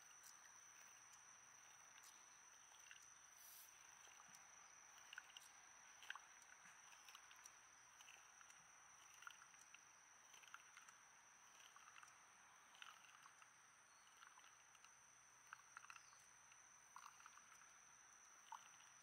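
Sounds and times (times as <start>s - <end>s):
faint ticks: 0.0s - 19.0s
steady high-pitched whine: 0.0s - 19.0s.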